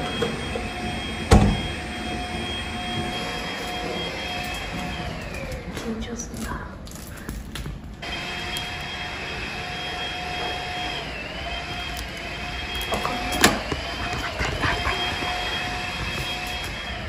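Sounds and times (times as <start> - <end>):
vacuum cleaner whining: 0.0 - 6.3, 8.0 - 17.0.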